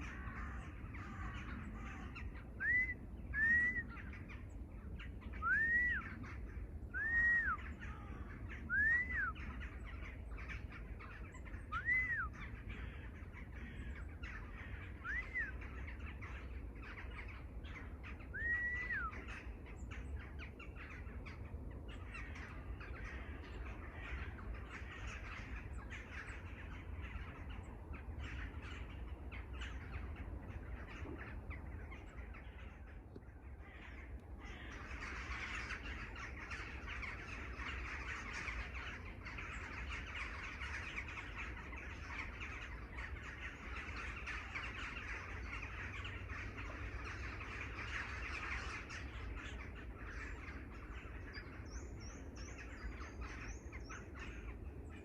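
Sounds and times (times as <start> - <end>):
bird calling rising and falling: 0.0 - 55.0
birds chattering chorus: 0.0 - 55.0.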